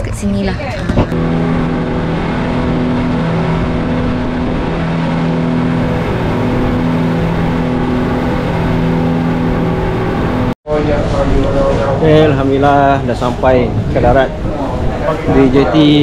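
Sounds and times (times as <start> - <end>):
boat engine running: 0.0 - 16.0
wind: 0.0 - 16.0
rushing water: 1.1 - 16.0.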